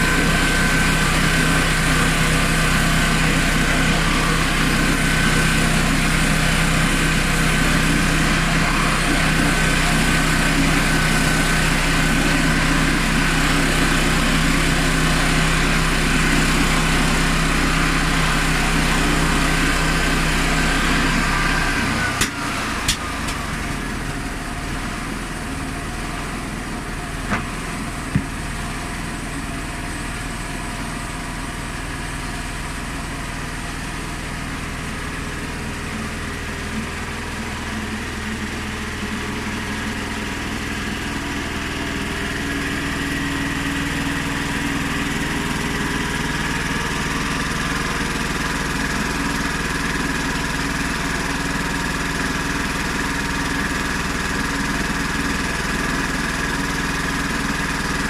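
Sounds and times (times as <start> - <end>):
petrol engine running with whine: 0.0 - 58.0.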